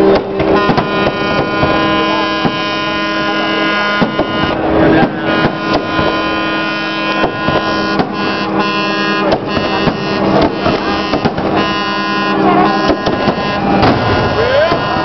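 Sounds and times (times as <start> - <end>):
fireworks exploding: 0.0 - 15.0
horns blaring: 0.0 - 15.0.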